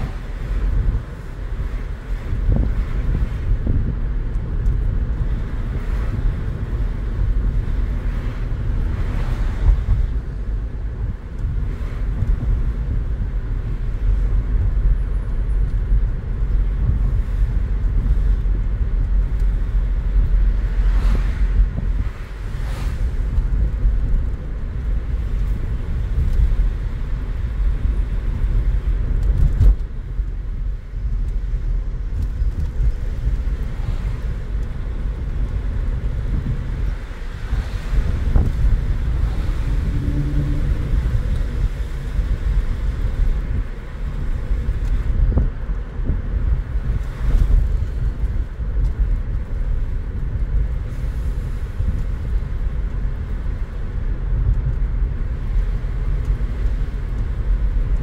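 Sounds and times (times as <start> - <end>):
car cabin road and engine rumble: 0.0 - 58.0.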